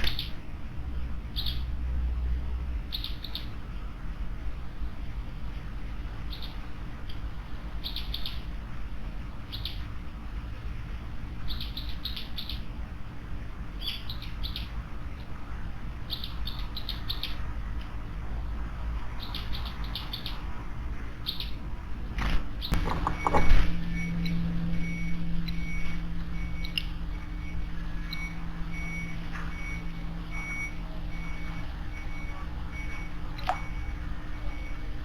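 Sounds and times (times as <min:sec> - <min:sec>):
low background rumble: 0:00.0 - 0:35.0
songbirds chirping: 0:00.0 - 0:35.0.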